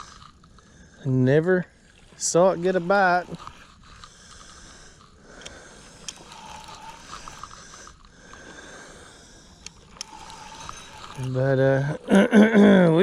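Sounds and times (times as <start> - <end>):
faint ticks: 0.0 - 12.1
person breathing heavily: 0.0 - 13.0.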